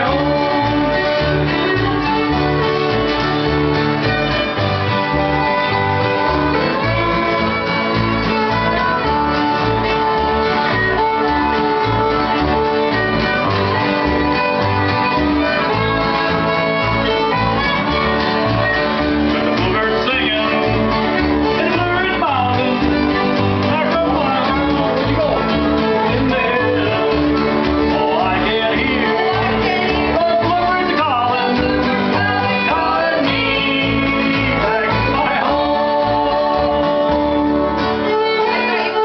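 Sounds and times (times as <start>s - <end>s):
bluegrass band playing: 0.0s - 39.0s.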